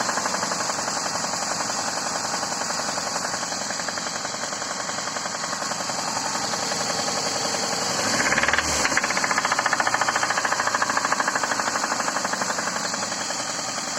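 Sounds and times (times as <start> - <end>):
car engine running: 0.0 - 13.9
engine knocking: 0.0 - 13.9.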